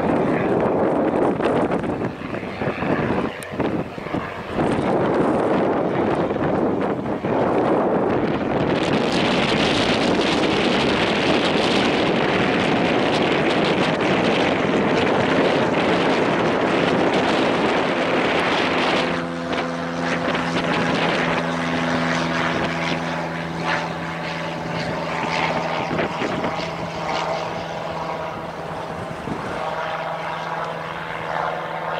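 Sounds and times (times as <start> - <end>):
light aircraft engine droning: 0.0 - 31.9.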